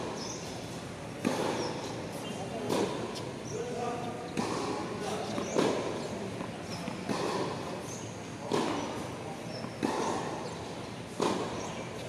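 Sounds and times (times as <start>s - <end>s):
tennis ball hit and bouncing: 1.2s - 11.8s.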